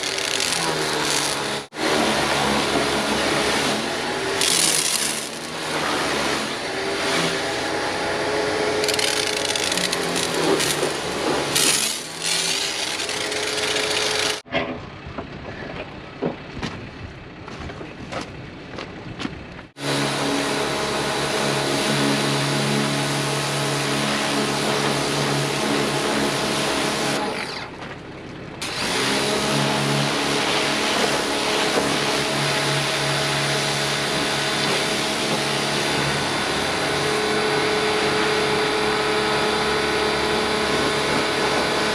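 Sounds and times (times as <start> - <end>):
pressure washer motor droning: 0.0 - 14.4, 19.8 - 27.4, 28.6 - 41.9.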